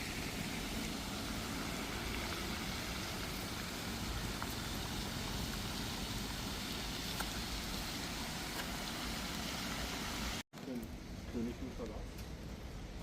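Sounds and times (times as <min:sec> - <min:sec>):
steady rain: 0:00.0 - 0:10.8
car traffic rumble: 0:00.0 - 0:13.0.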